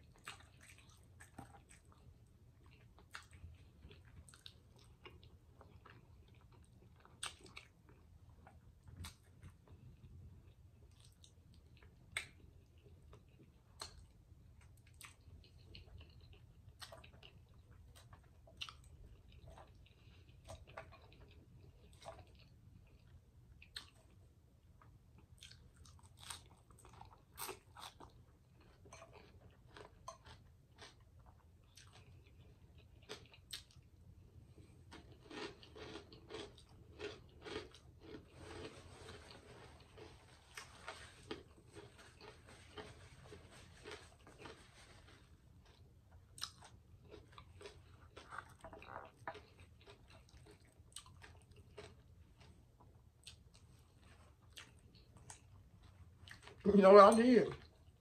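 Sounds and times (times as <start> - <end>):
person chewing: 0.0 - 56.6.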